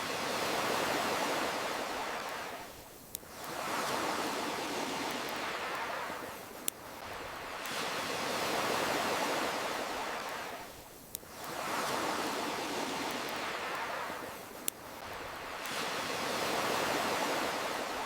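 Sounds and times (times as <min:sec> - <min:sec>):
campfire crackles: 0:00.0 - 0:18.0
ocean waves washing in: 0:00.0 - 0:18.0.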